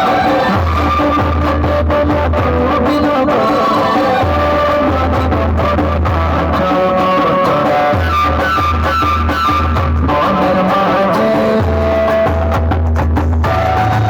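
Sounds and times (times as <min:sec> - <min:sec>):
heavy deep bass line: 0:00.0 - 0:14.0
plucked guitar-like melody: 0:00.0 - 0:14.0.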